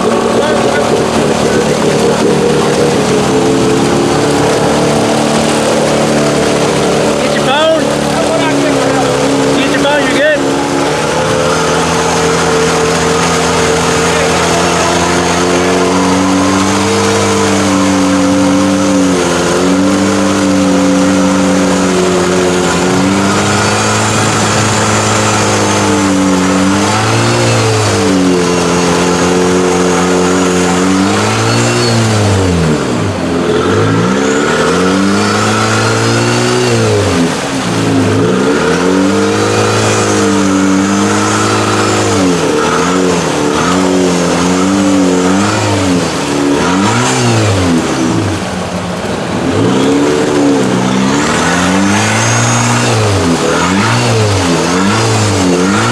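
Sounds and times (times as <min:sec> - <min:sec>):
off-road vehicle engine revving: 0:00.0 - 0:55.9.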